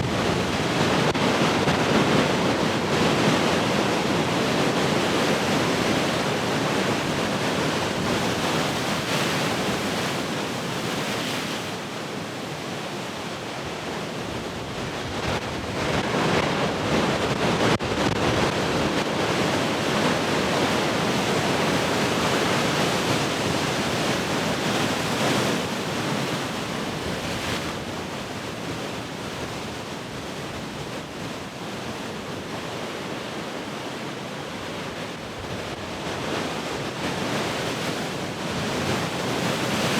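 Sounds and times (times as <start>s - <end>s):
heavy ocean surf: 0.0s - 39.9s.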